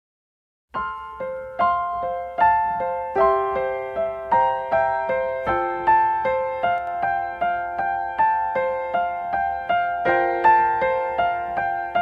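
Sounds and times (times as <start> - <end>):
gentle piano music: 0.8 - 12.0.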